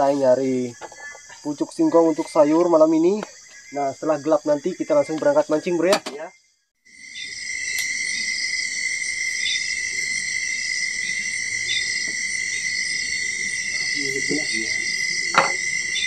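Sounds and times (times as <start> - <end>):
insects trilling: 0.0 - 16.0
shrill insect buzzing: 0.0 - 16.0.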